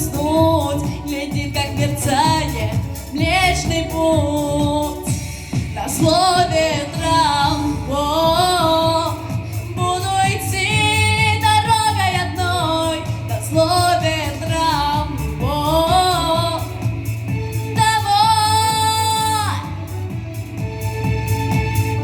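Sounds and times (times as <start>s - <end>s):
backing track with steady beat: 0.0s - 22.0s.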